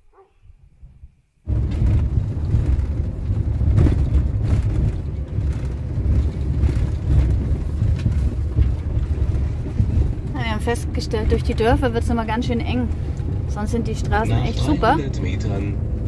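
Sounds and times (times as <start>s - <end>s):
van engine and tyres rumbling: 1.4s - 16.0s.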